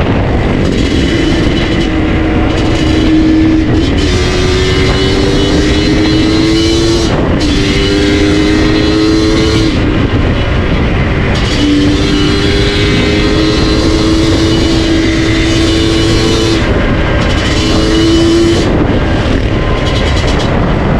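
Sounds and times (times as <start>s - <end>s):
two-stroke motorcycle engine revving: 0.0s - 20.9s.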